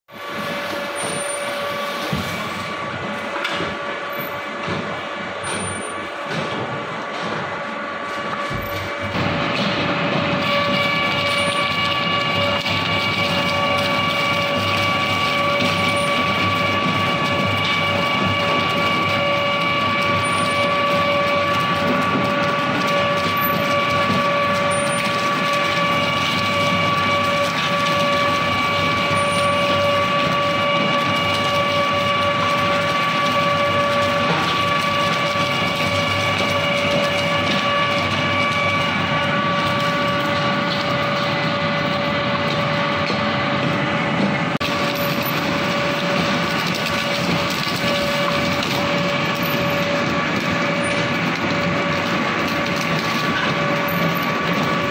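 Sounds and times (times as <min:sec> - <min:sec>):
wood shredder running: 0:00.1 - 0:54.9.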